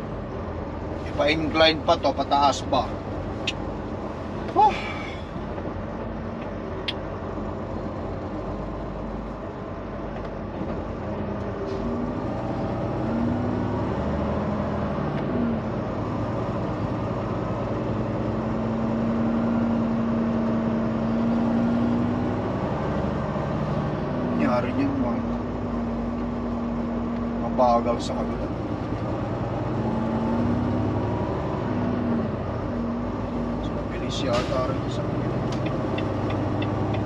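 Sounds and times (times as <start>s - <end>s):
truck diesel engine drone: 0.0s - 37.0s.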